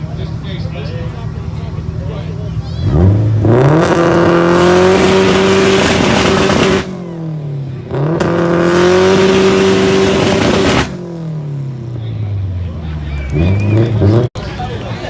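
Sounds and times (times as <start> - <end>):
car engine revving: 1.0 - 14.6.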